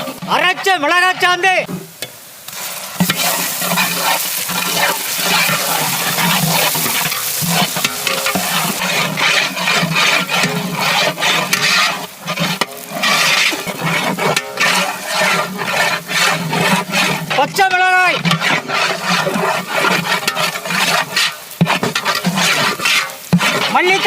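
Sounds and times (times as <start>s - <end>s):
chilli paste sizzling in oil: 0.0s - 24.0s.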